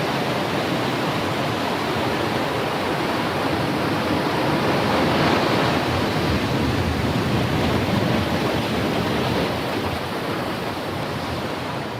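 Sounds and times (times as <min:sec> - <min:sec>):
ocean waves breaking: 0:00.0 - 0:11.9.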